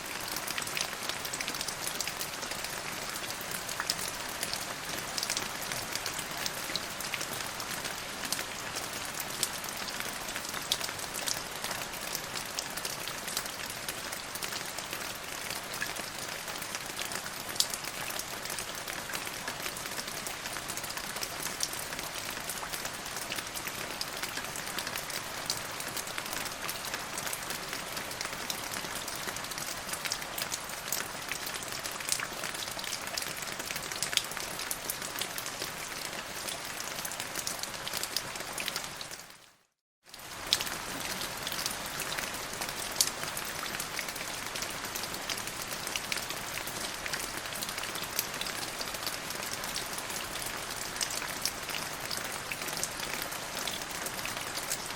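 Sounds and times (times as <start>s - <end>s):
rain pattering on a surface: 0.0s - 54.9s.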